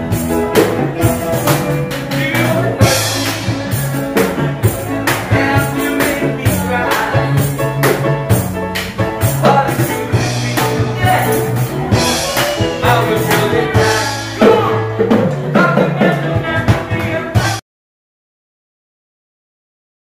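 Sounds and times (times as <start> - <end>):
live band playing upbeat song: 0.0 - 17.6.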